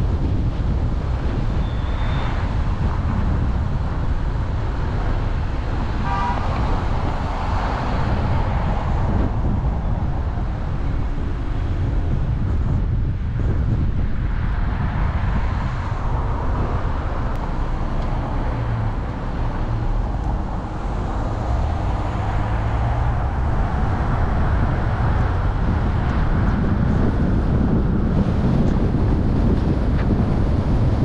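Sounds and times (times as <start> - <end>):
car road noise: 0.0 - 31.0.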